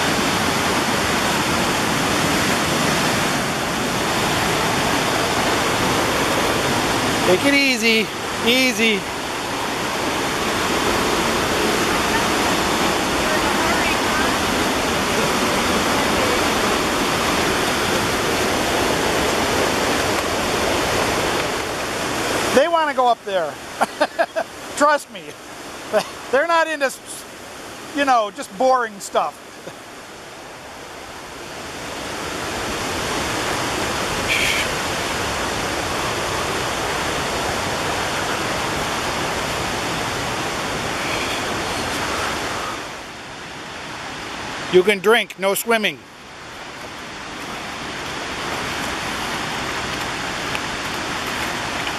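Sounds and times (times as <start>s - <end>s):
water rushing over rock: 0.0s - 51.9s.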